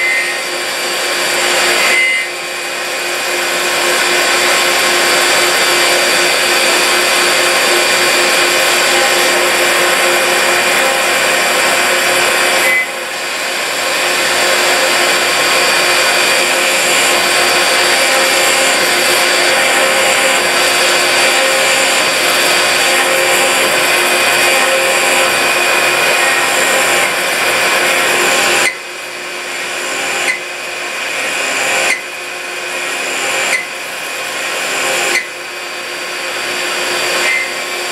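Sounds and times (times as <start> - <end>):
lathe machining with whine: 0.0 - 37.9.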